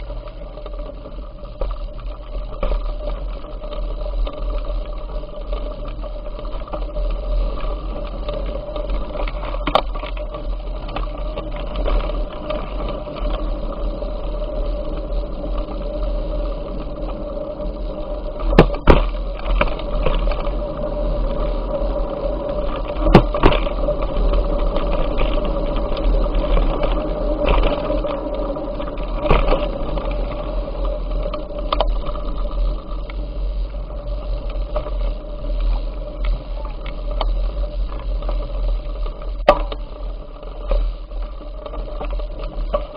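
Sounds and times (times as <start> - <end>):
bicycle rumble and hum: 0.0 - 42.9.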